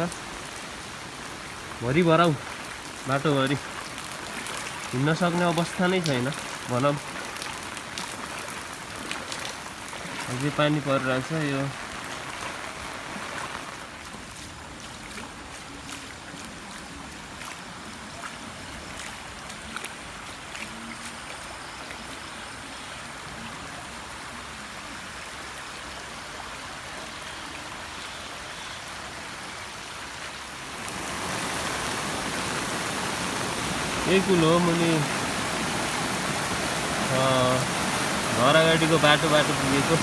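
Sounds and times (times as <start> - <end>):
floodwater rushing over road: 0.0 - 40.0
rain falling: 0.0 - 40.0.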